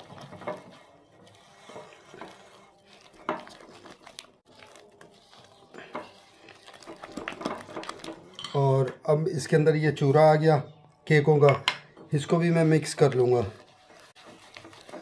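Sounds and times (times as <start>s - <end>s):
utensil stirring in glass bowl: 0.0s - 8.7s, 11.5s - 15.0s.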